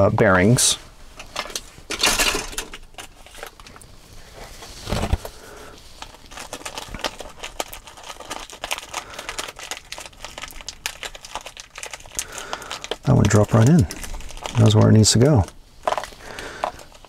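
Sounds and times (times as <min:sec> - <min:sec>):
plastic bag crinkling: 0:01.2 - 0:17.0.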